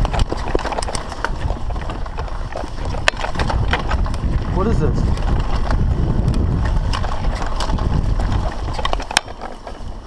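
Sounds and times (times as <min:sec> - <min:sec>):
bike rattling and knocking: 0:00.0 - 0:10.0
tyres rumbling on dirt: 0:00.0 - 0:10.0
wind buffeting microphone: 0:00.0 - 0:10.0.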